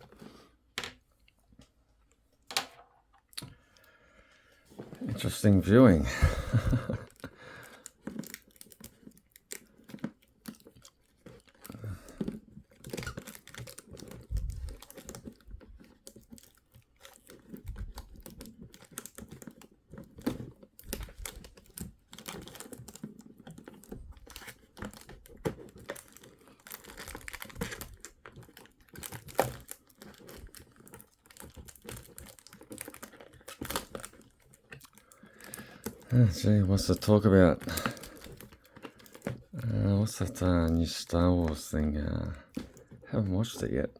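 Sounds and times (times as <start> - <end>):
plastic packaging crinkling: 4.7 - 43.9.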